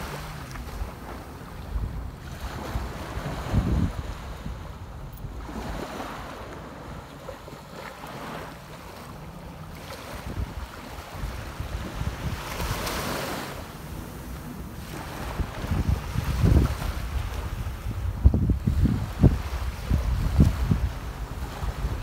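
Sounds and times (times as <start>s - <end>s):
wind on microphone: 0.0s - 8.5s, 9.8s - 22.0s
sea surf breaking on sand: 0.0s - 22.0s.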